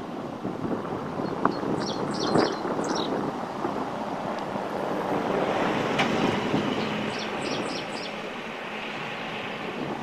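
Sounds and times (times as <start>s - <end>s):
wind gusting across microphone: 0.0s - 10.0s.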